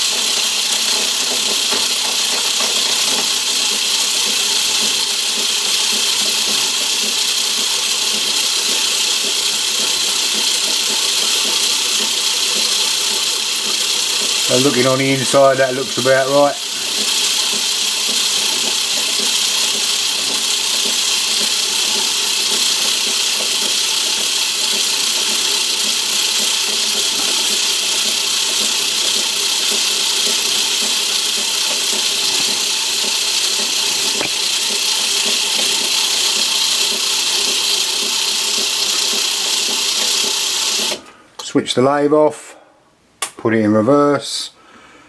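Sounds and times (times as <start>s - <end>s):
lathe whirring with gear noise: 0.0s - 41.2s.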